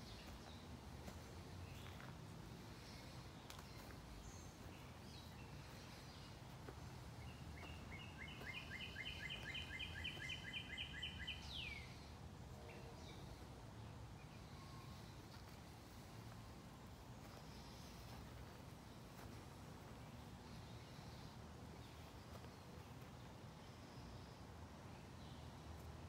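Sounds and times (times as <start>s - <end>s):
faint low background noise: 0.0s - 26.0s.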